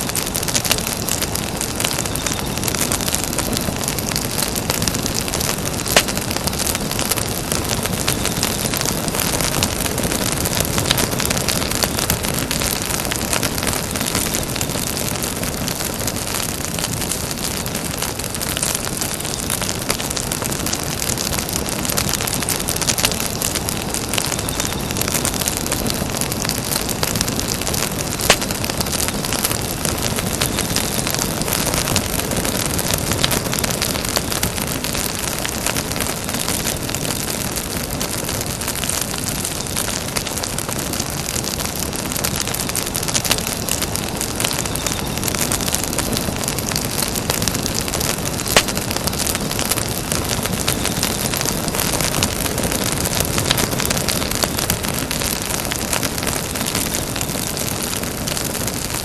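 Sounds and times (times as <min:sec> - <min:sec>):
campfire crackling: 0:00.0 - 0:59.0
sharp fire pops: 0:00.0 - 0:59.0.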